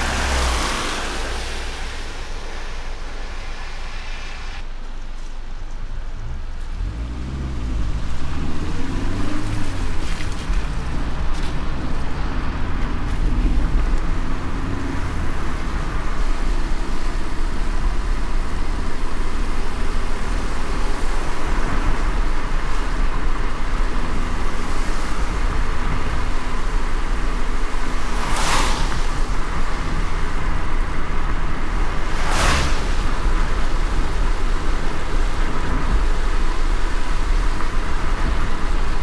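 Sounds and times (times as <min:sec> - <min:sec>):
car road and engine rumble: 0:00.0 - 0:39.0
tyres hissing on wet road: 0:00.0 - 0:39.0.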